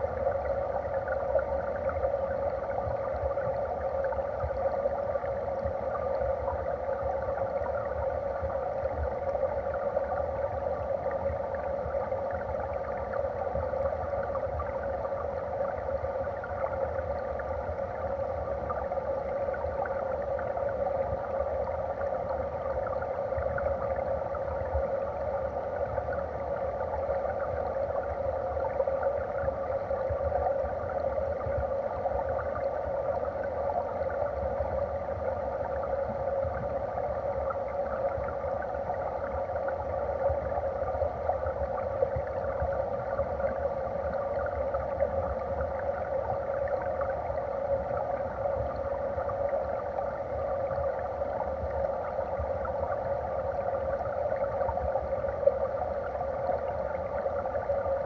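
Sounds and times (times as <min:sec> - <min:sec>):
stream rushing heard underwater: 0:00.0 - 0:58.0.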